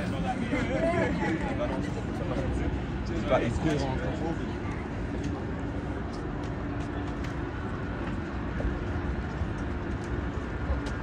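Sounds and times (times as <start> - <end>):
city background rumble: 0.0 - 11.0.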